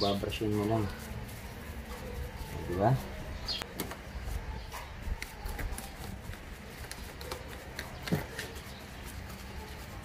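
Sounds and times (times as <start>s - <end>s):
bristle brush scratching: 0.0s - 10.0s.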